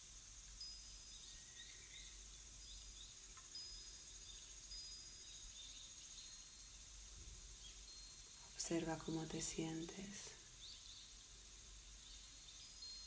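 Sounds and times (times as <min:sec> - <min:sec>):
insect hiss: 0:00.0 - 0:13.0
small birds chirping: 0:00.6 - 0:13.0.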